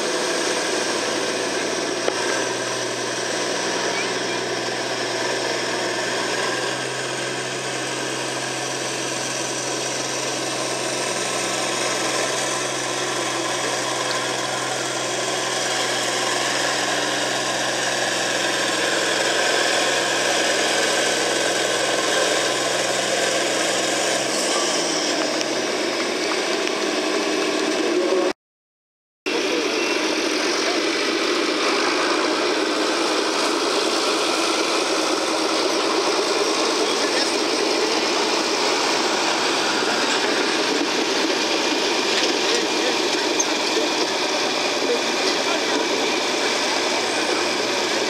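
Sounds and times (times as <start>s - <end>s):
sled engine running: 0.0s - 28.3s, 29.3s - 48.0s
tractor engine idling: 0.0s - 28.3s, 29.3s - 48.0s.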